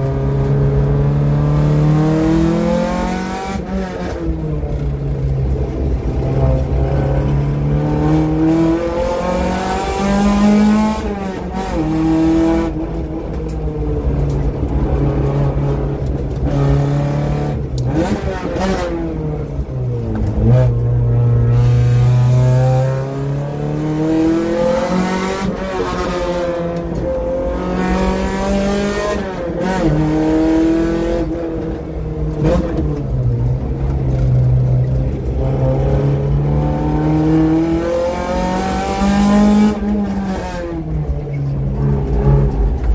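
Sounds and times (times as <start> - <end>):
race car engine accelerating: 0.0 - 42.9.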